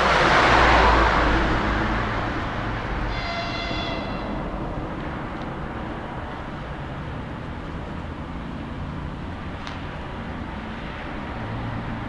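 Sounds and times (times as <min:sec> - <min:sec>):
distant train rumble: 0:00.0 - 0:11.5
outdoor background noise: 0:00.0 - 0:12.0.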